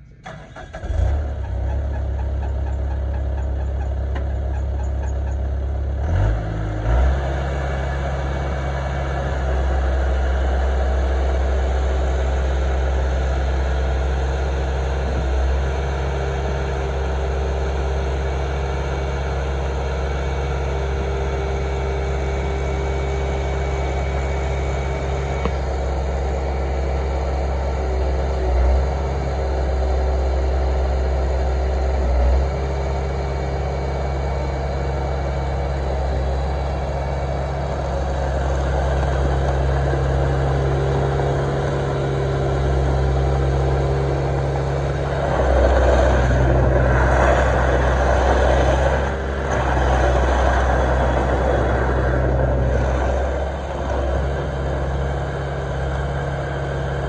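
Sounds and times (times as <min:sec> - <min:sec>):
diesel engine running: 0:00.0 - 0:57.0
loader driving over gravel: 0:00.0 - 0:57.0.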